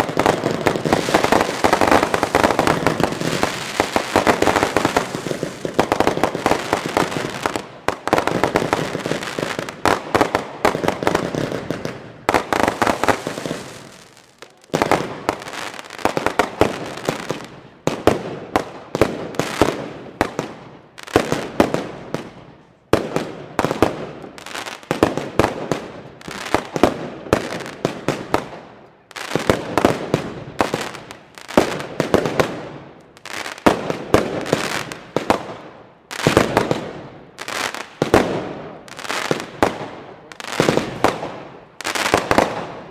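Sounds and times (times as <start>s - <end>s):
fireworks crackling: 0.0s - 42.9s
fireworks exploding: 0.0s - 42.9s.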